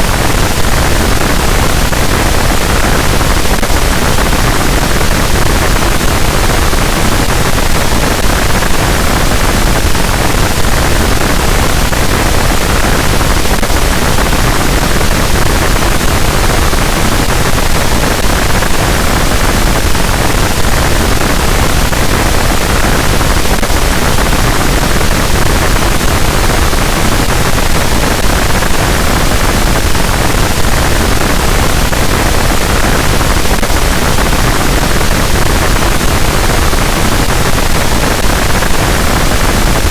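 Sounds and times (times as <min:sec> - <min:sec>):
dense static noise: 0:00.0 - 0:39.9.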